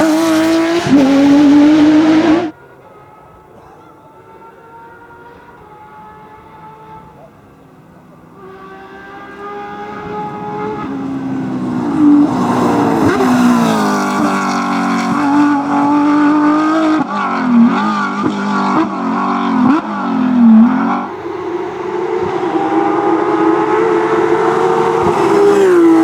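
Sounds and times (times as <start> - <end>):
racing car engine at full throttle: 0.0 - 26.0.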